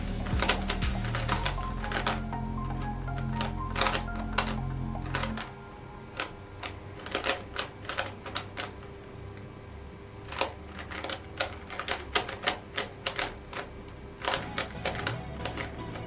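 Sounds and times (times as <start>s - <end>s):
puzzle cube layers clicking: 0.0s - 5.5s, 6.2s - 8.8s, 10.3s - 16.0s.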